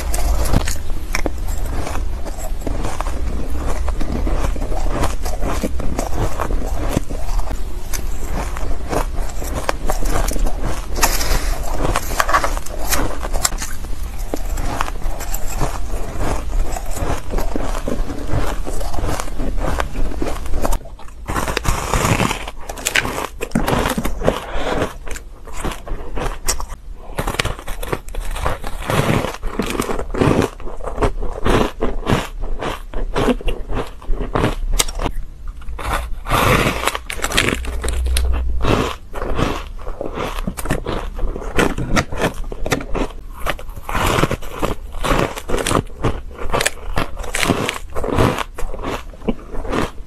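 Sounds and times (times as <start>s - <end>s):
crunching shaved ice: 0.0s - 50.0s.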